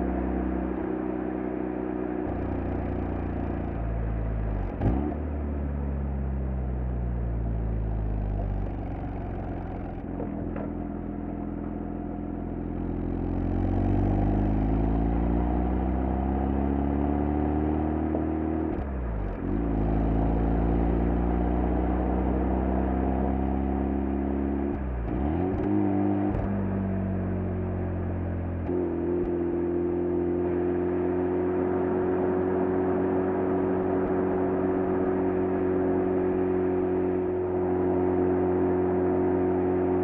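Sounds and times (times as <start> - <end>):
rotary engine exhaust at full throttle: 0.0 - 40.0.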